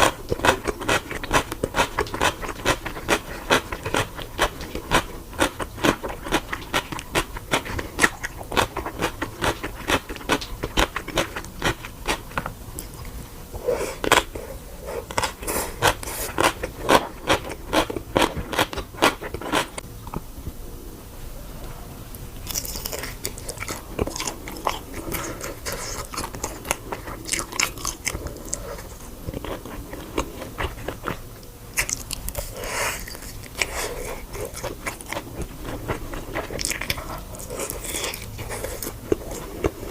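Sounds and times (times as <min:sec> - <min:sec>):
person chewing crunchy food: 0:00.0 - 0:20.2, 0:22.4 - 0:39.9.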